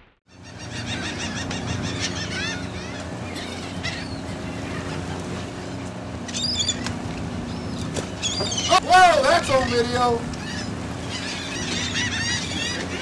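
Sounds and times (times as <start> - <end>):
boat engine droning: 0.3 - 13.0
gulls calling: 0.3 - 13.0.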